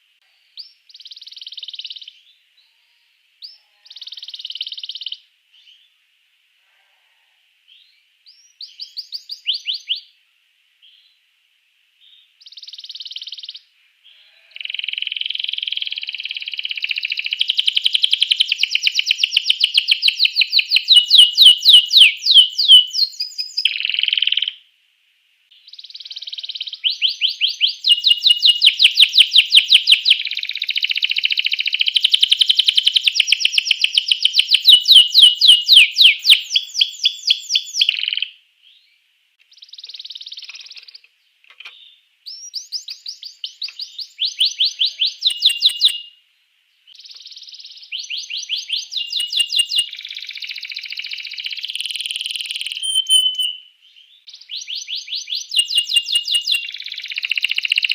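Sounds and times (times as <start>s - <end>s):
canary singing: 0.6s - 5.9s, 7.7s - 10.1s, 12.1s - 24.6s, 25.6s - 38.4s, 39.5s - 46.2s, 46.9s - 57.9s.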